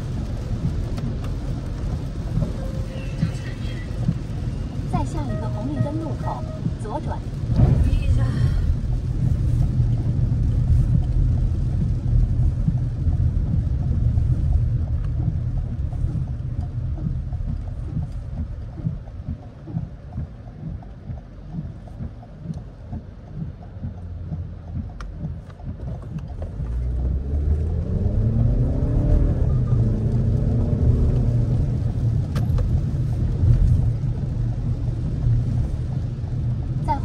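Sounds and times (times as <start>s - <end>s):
car engine accelerating: 0.0s - 37.0s
heavy rain: 0.0s - 37.0s
tyre noise on wet road: 0.0s - 37.0s.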